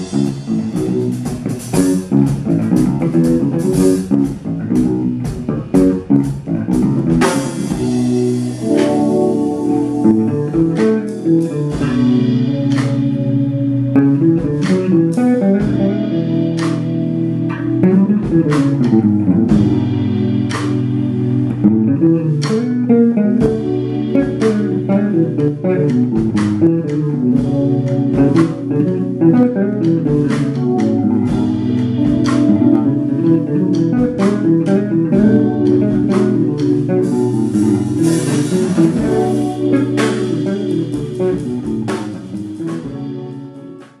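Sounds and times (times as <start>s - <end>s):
guitar bass and drums music: 0.0s - 44.0s.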